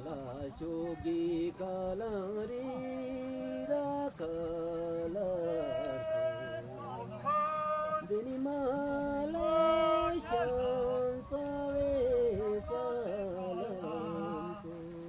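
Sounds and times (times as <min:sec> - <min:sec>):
voices singing slow melody: 0:00.0 - 0:15.0.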